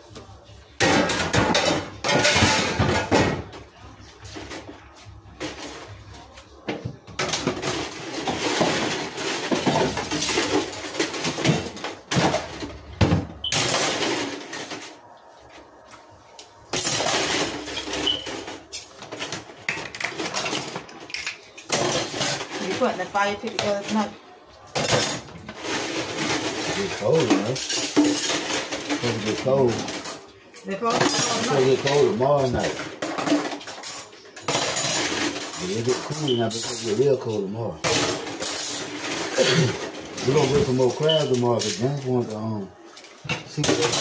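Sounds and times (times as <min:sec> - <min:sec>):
plates and cutlery clattering: 0:00.2 - 0:15.2, 0:15.8 - 0:44.0.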